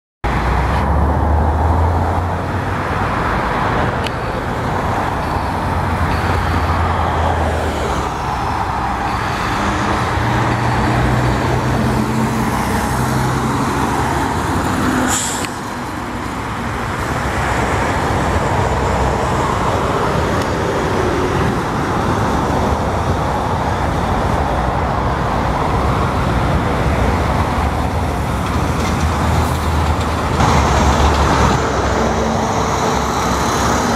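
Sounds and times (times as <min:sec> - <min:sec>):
diesel engines hum: 0:00.2 - 0:33.9.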